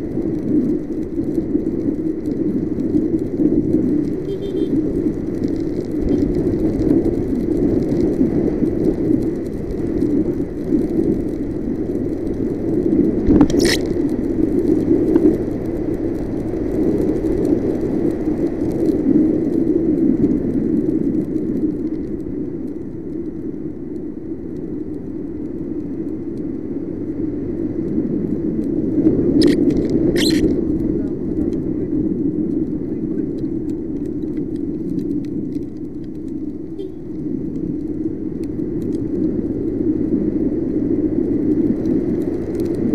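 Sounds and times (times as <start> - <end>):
scooter engine tyre and wind noise: 0.0 - 42.9.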